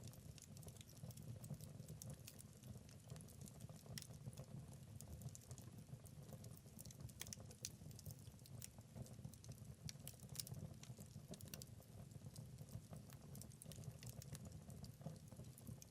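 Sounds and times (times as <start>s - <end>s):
wood fire crackling and popping: 0.0s - 15.9s.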